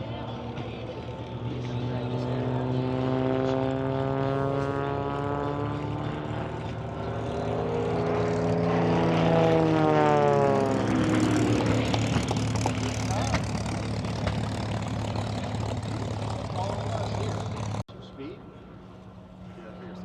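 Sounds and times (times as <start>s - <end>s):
propeller airplane flying past: 0.0s - 20.0s.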